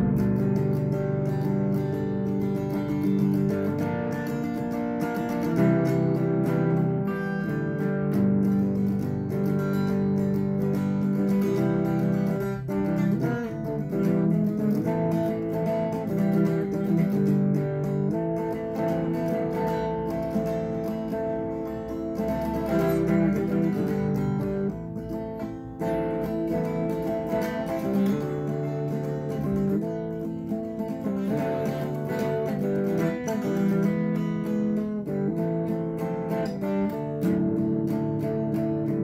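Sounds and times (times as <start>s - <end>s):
guitar music: 0.0s - 39.0s.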